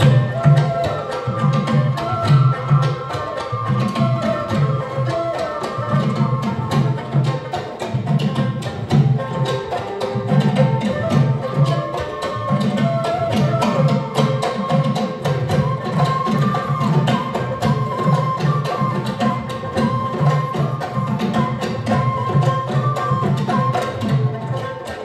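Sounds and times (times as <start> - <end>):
folk instrument ensemble: 0.0 - 25.0.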